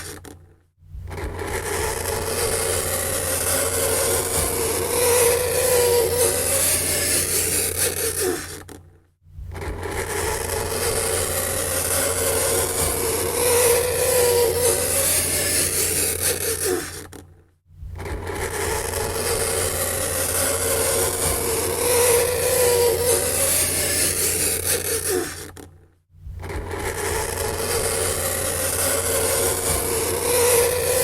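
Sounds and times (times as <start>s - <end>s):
steady low hum: 0.8s - 7.7s, 9.3s - 16.2s, 17.7s - 24.6s, 26.2s - 31.0s.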